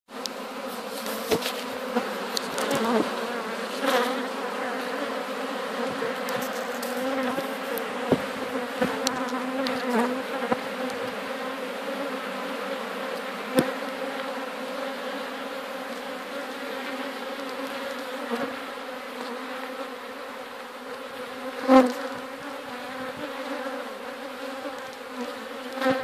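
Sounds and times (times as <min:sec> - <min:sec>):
bee swarm buzzing: 0:00.1 - 0:26.0
bees flying past: 0:00.1 - 0:26.0.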